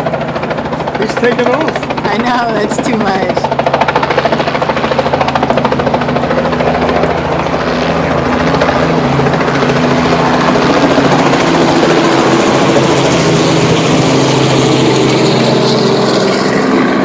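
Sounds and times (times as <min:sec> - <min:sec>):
helicopter engine hum: 0:00.0 - 0:17.0
helicopter rotor beating: 0:00.0 - 0:17.0.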